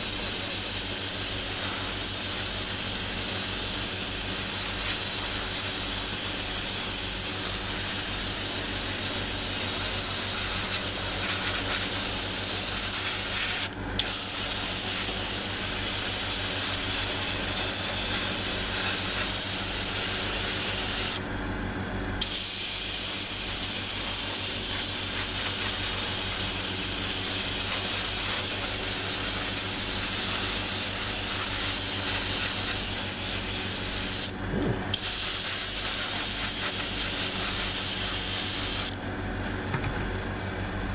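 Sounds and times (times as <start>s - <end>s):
airbrush spraying hiss: 0.0s - 21.2s, 22.2s - 34.3s, 35.0s - 39.0s.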